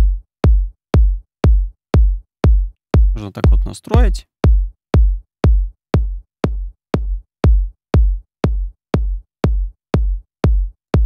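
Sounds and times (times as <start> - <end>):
electronic kick drum beat: 0.0 - 11.0.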